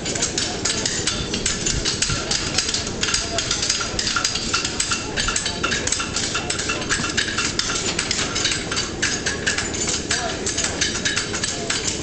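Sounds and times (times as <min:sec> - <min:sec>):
hammers clanging on anvils: 0:00.0 - 0:12.0.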